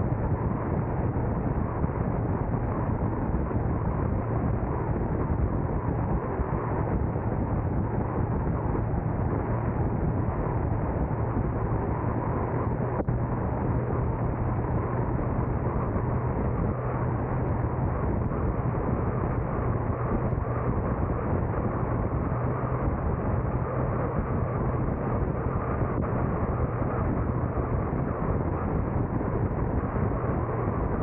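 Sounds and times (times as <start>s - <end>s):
car driving on road: 0.0s - 31.0s.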